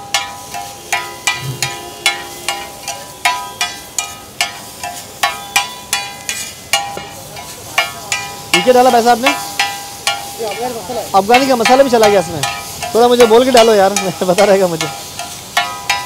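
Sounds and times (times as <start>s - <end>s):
metal spatula clanging on griddle: 0.0s - 16.0s.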